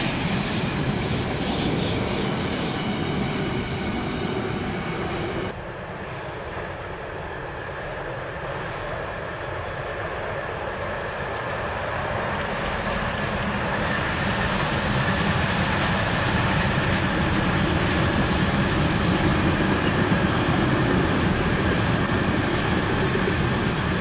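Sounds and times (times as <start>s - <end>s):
train wheels rumbling on rails: 0.0s - 6.8s, 10.8s - 24.0s.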